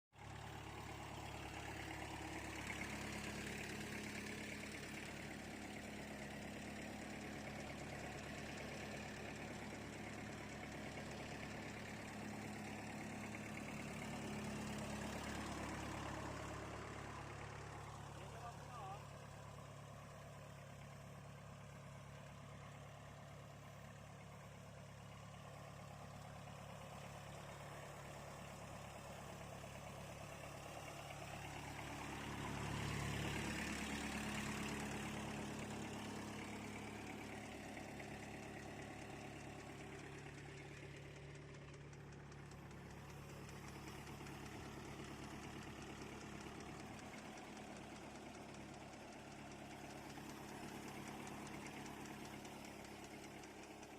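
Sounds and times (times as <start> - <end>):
tractor diesel engine running: 0.1 - 53.9.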